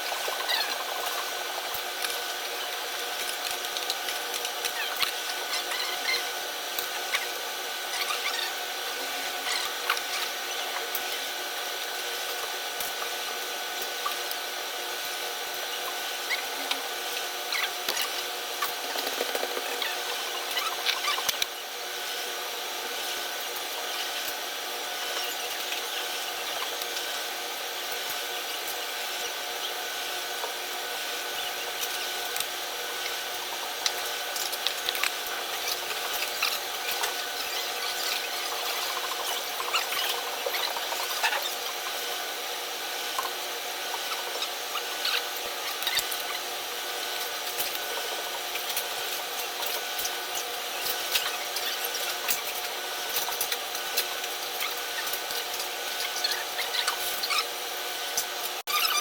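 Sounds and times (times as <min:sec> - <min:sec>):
steady mechanical whir: 0:00.0 - 0:59.0.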